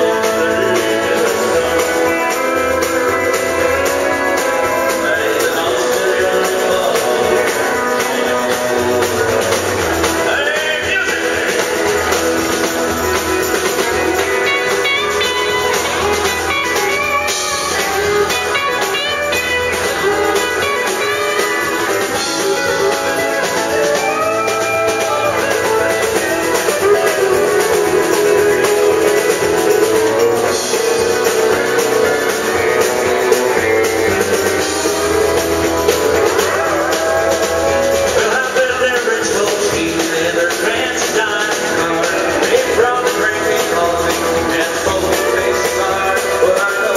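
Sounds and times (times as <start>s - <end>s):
live country band playing: 0.0s - 46.9s.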